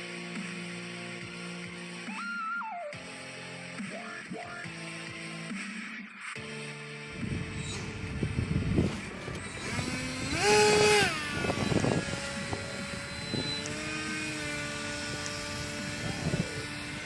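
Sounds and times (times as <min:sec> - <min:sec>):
electric motor and propeller whining: 0:00.0 - 0:05.6, 0:06.4 - 0:17.0.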